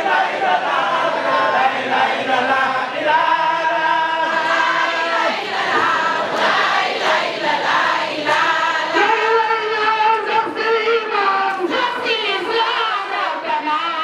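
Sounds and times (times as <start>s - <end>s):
voices singing a chant: 0.0s - 14.0s.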